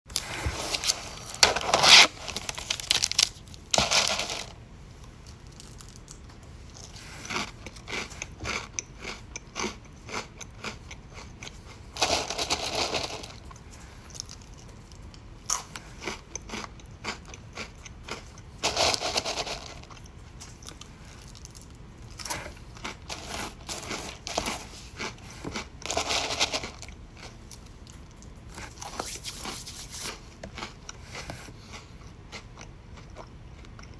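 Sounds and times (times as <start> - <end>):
person chewing crunchy food: 0.1 - 29.0, 30.1 - 33.9.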